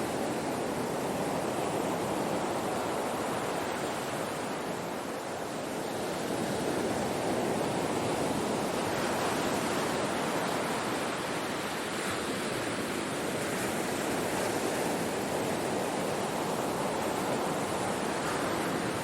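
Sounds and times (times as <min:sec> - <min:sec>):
ocean surf washing on shore: 0:00.0 - 0:19.0.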